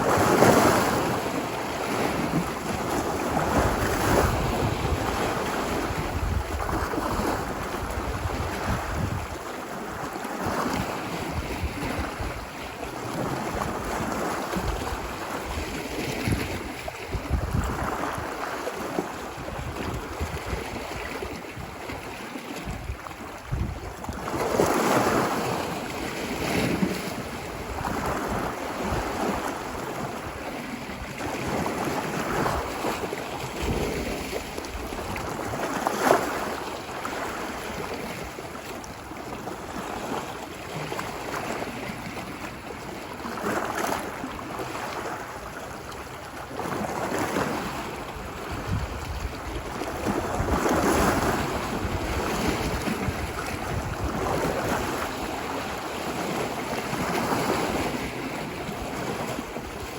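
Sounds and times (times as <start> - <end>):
ocean waves breaking: 0.0 - 59.9
wind: 0.0 - 59.9.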